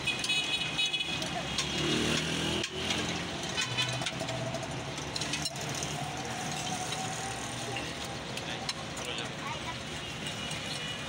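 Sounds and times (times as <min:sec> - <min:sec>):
roadside traffic: 0:00.0 - 0:11.0.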